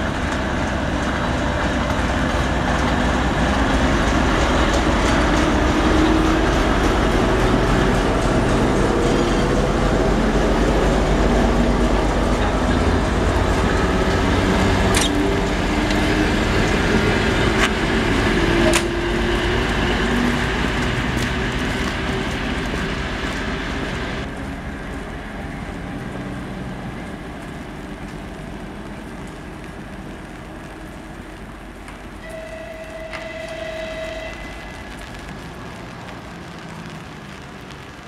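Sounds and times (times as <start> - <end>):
rumble of train coaches on rails: 0.0 - 38.0.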